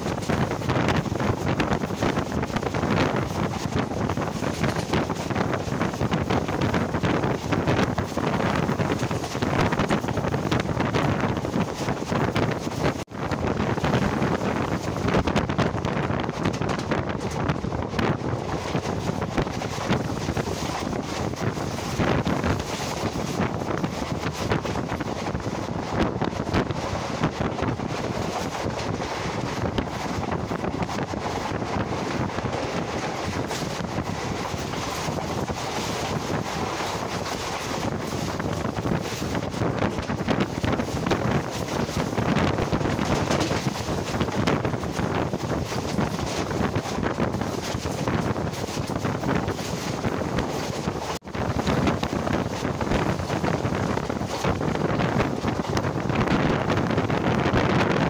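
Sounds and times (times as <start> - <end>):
train running on rails: 0.0 - 58.0
wheels clattering on track: 0.0 - 58.0
wind buffeting microphone: 0.0 - 58.0.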